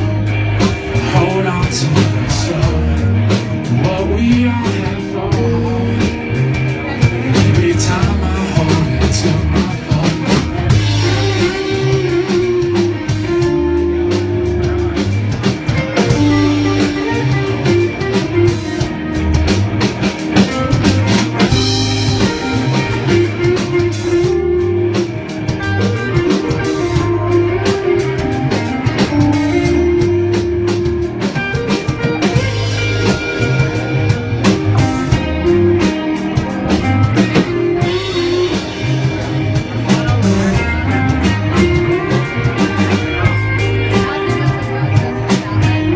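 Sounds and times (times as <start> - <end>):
bass guitar: 0.0 - 45.9
drum kit: 0.0 - 45.9
electric guitar: 0.0 - 45.9.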